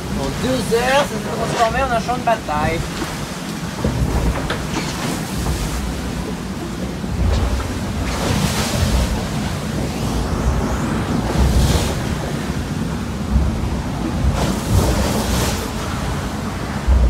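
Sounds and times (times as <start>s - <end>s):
sea rushing along hull: 0.0s - 17.0s
wind buffeting microphone: 0.0s - 17.0s.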